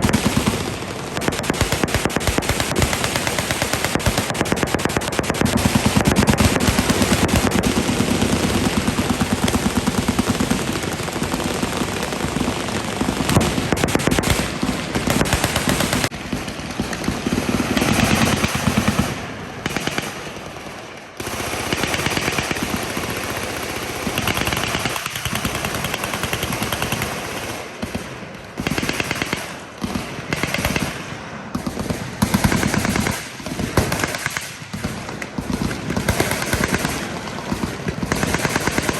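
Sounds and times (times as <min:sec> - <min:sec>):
machine guns firing: 0:00.0 - 0:38.9.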